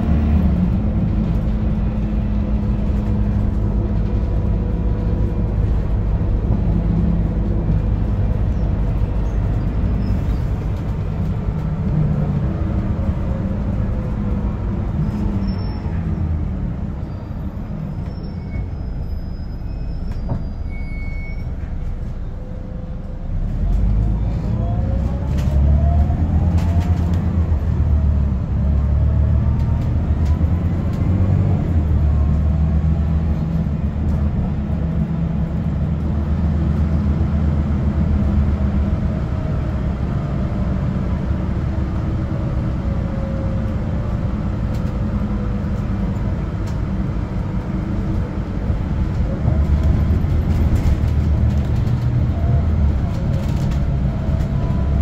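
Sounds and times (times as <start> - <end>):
bus engine low rumble: 0.0 - 55.0.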